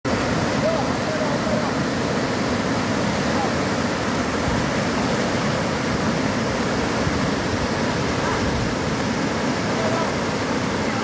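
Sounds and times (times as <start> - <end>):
floodwater rushing: 0.1 - 11.0.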